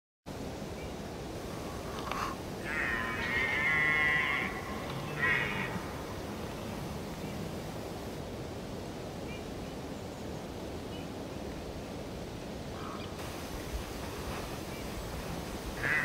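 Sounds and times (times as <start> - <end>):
outdoor background hiss: 0.3 - 16.0.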